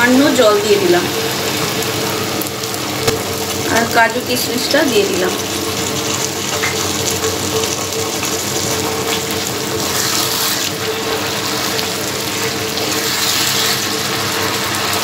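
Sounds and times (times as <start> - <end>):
steady hum: 0.0 - 13.2
curry sizzling in a frying pan: 0.0 - 15.0.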